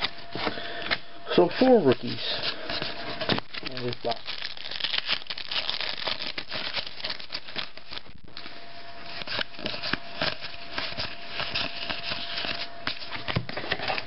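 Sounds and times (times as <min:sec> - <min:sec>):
cards rustling and clicking: 0:01.7 - 0:14.0
foil wrapper crinkling: 0:01.8 - 0:14.0.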